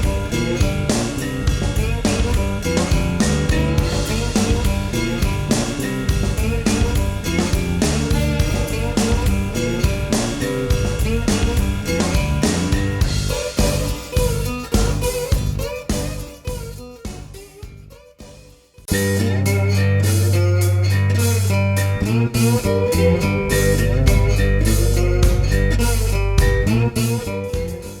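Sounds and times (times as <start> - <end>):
guitar-led instrumental music: 0.0 - 28.0.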